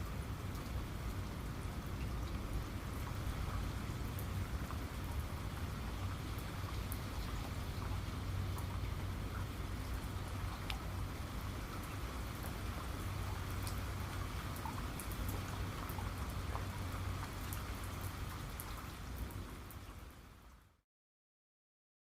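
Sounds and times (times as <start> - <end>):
steady rain falling: 0.0 - 20.8.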